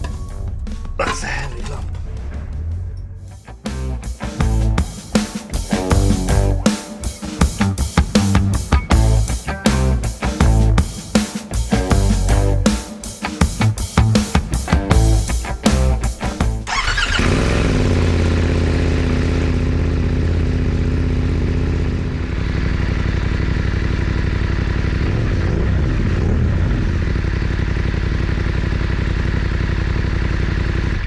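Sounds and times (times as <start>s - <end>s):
motorcycle engine running: 0.0s - 12.8s, 13.4s - 31.0s.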